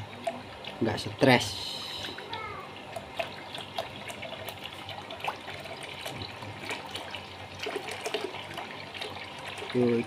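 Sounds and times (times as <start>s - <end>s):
water drips and splashes: 0.0s - 10.0s
water pouring into a basin: 0.0s - 10.0s.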